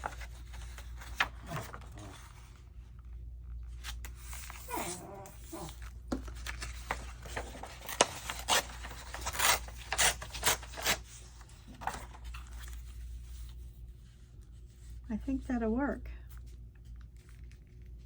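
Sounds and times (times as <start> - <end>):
paper rustling and crinkling: 0.0 - 15.1, 16.2 - 18.0.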